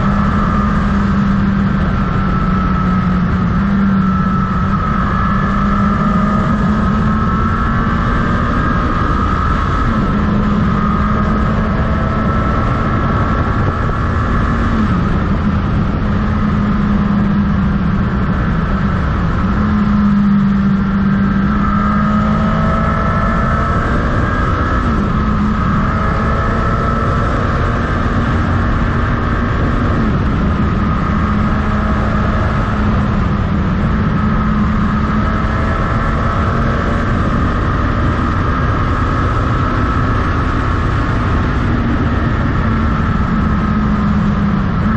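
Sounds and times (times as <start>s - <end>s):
motorcycle engine cruising: 0.0s - 44.9s
wind and road noise: 0.0s - 44.9s.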